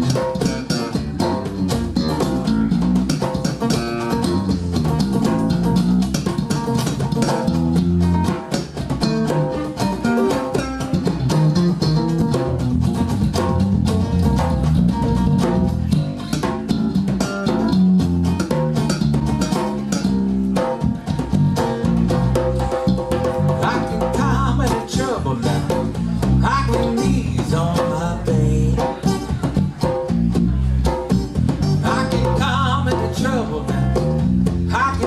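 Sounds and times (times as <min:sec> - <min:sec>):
bass: 0:00.0 - 0:35.0
blues band playing: 0:00.0 - 0:35.0
drum and percussion beat: 0:00.0 - 0:35.0
guitar: 0:00.0 - 0:35.0.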